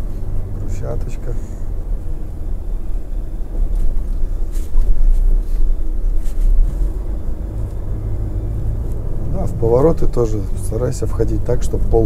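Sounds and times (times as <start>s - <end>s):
truck rumbling over cobblestones: 0.0s - 12.0s.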